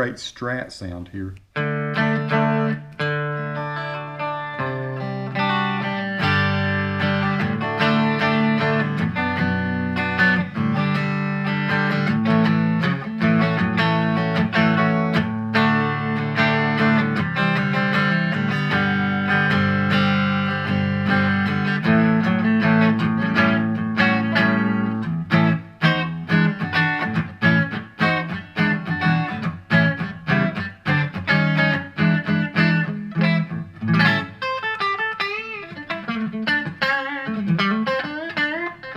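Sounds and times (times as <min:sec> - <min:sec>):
electric guitar playing: 0:01.5 - 0:38.9.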